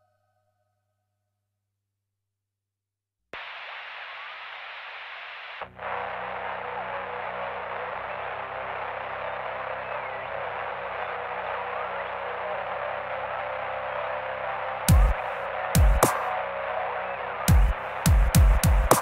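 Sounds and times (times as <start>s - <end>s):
static-like hiss: 3.4s - 19.0s.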